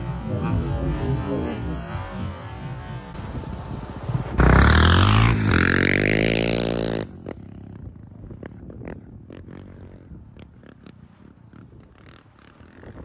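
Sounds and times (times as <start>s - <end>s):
low engine rumble: 0.0s - 13.0s
quad engine revving: 0.0s - 13.0s.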